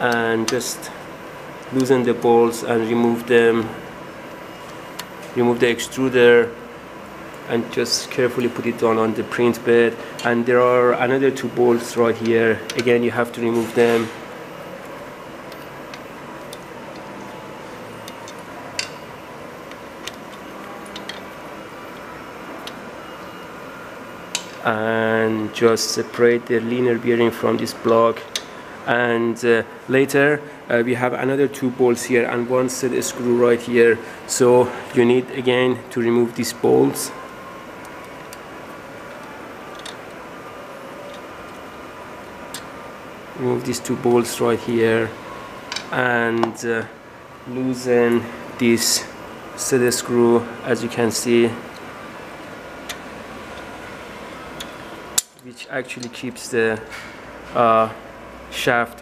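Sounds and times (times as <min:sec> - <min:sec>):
room noise: 0:00.0 - 0:59.0
steady background hum: 0:00.0 - 0:59.0.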